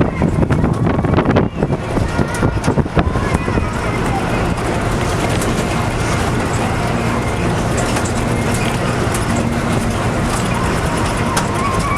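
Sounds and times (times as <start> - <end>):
vehicle engine and road noise: 0.0 - 11.9.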